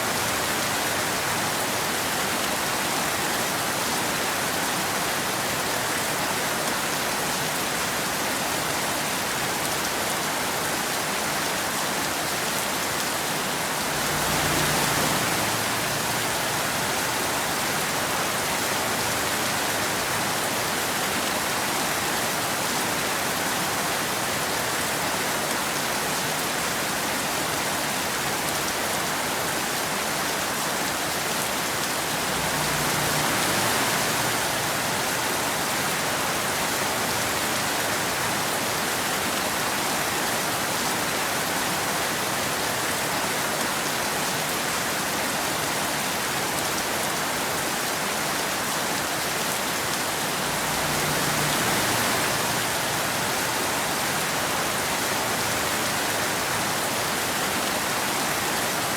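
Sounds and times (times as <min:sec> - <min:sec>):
rain falling on a road: 0:00.0 - 0:58.9.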